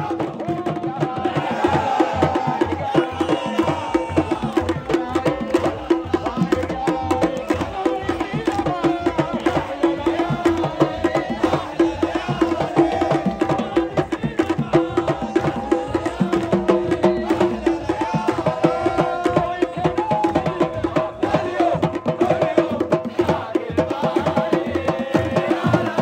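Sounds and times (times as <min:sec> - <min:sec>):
crowd singing a chant: 0:00.0 - 0:26.0
rhythmic drum beat: 0:00.0 - 0:26.0.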